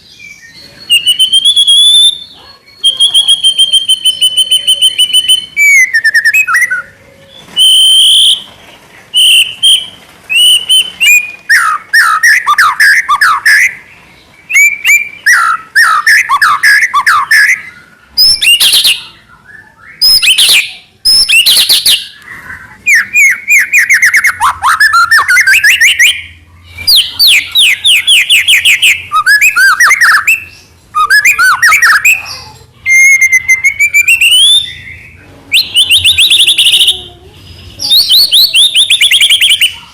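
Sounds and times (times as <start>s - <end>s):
songbird whistles and trills: 0.0s - 37.1s, 37.8s - 39.9s.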